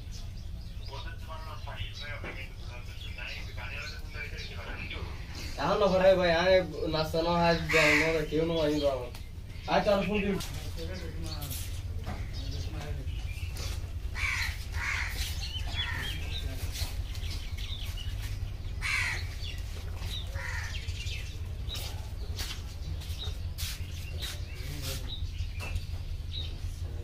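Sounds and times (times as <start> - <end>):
birds chirping: 0.0 - 27.0
steady low hum: 0.0 - 27.0.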